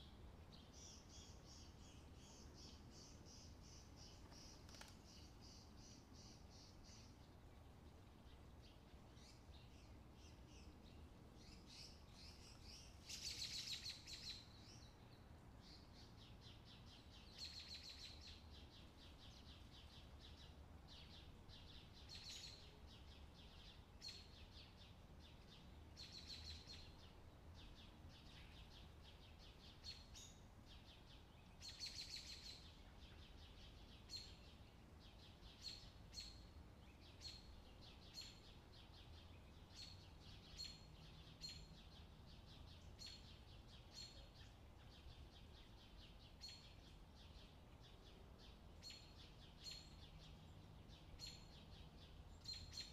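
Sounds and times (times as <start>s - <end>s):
low steady hum: 0.0s - 52.9s.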